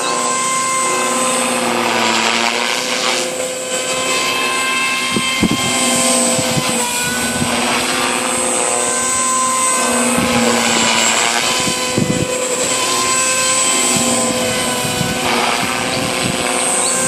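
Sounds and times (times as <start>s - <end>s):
electric motor whine: 0.0s - 17.0s
rotor buzzing: 0.0s - 17.0s.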